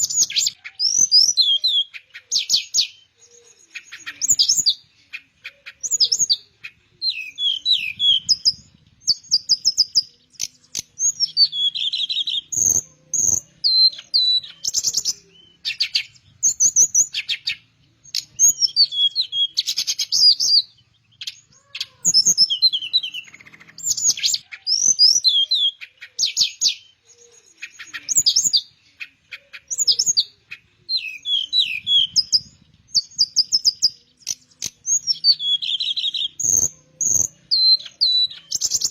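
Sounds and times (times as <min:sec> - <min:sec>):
bird singing chattering whistles: 0:00.0 - 0:38.9.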